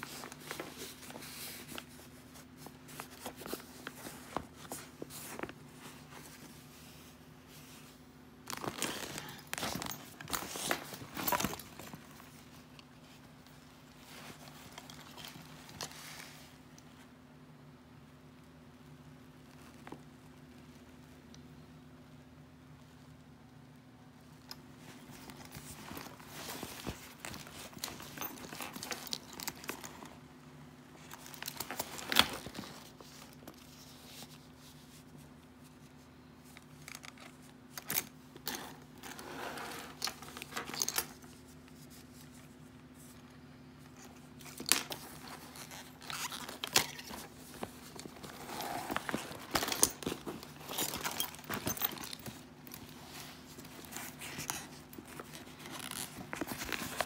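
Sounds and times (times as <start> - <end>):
fabric rustling and scraping: 0.0 - 17.2, 24.4 - 57.0
faint steady hum: 0.0 - 57.0.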